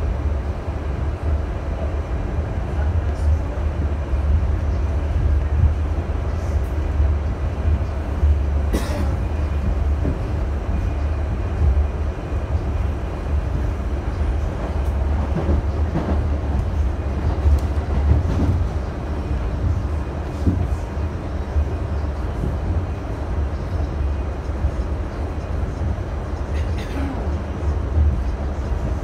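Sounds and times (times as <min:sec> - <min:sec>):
subway car wheels rumbling: 0:00.0 - 0:29.0.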